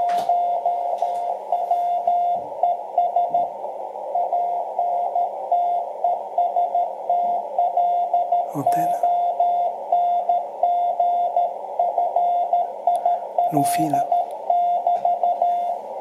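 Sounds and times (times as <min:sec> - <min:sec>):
morse code tone: 0:00.0 - 0:16.0
receiver hiss: 0:00.0 - 0:16.0.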